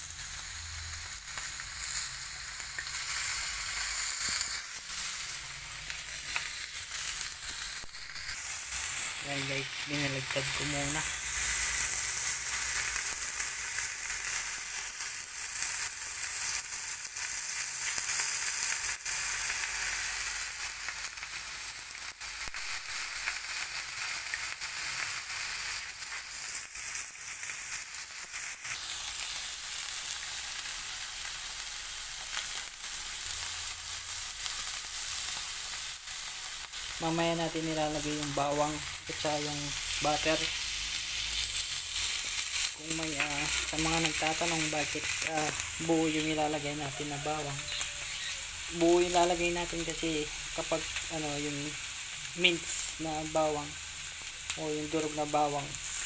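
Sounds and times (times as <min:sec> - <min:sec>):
steak sizzling in a frying pan: 0:00.0 - 0:56.0.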